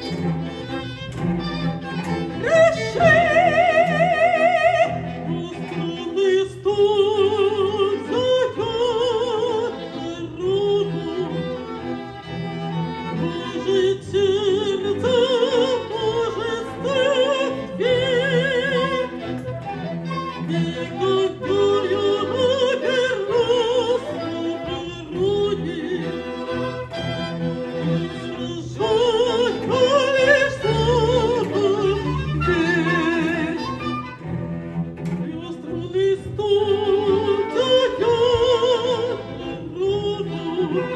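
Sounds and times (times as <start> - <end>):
bowed strings: 0.0 - 40.9
operatic soprano singing: 2.4 - 12.0, 13.2 - 34.2, 35.2 - 40.9.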